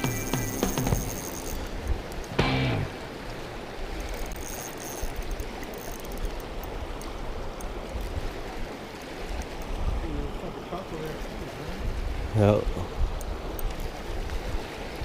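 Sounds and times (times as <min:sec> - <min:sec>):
river water flowing over rocks: 0:00.0 - 0:15.0.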